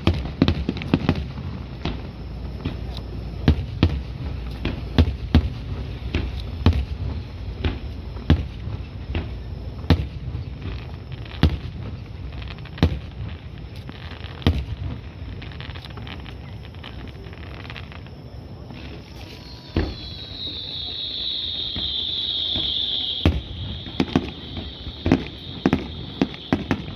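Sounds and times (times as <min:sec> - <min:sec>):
fireworks booming: 0:00.0 - 0:26.9.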